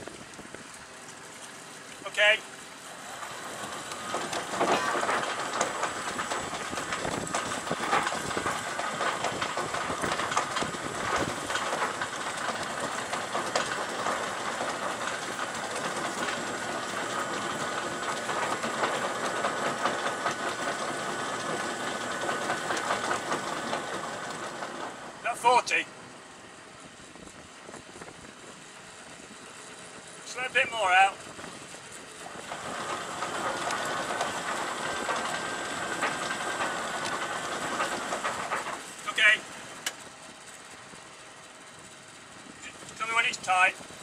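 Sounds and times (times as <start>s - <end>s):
rapid ticking rattle: 3.0s - 25.4s, 29.9s - 44.0s.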